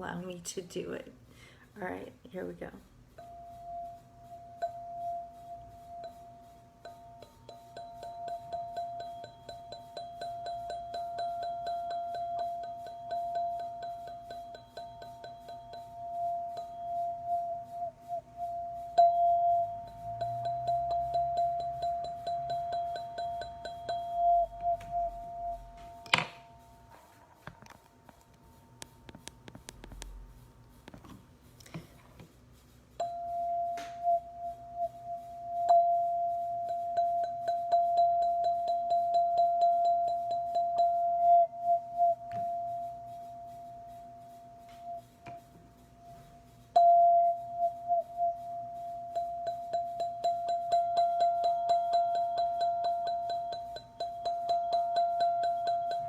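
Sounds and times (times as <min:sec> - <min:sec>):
sustained ringing tone: 0:03.2 - 0:27.2, 0:33.0 - 0:45.2, 0:46.8 - 0:56.0.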